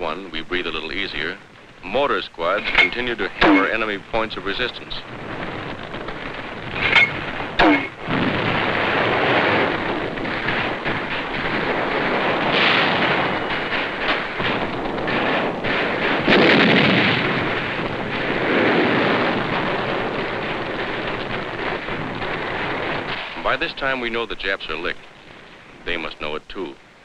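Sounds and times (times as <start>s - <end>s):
rumble of explosions: 0.0s - 27.0s
gunfire cracks: 2.5s - 24.4s.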